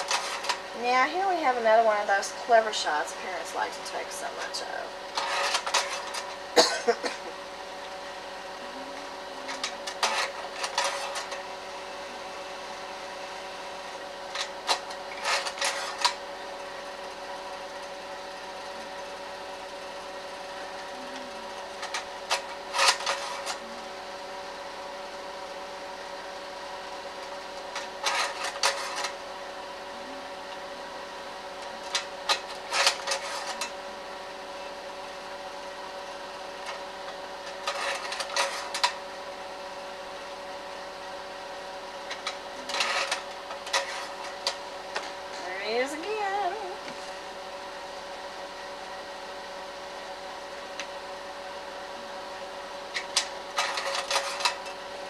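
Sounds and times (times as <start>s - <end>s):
projector fan and motor hum: 0.0s - 55.0s.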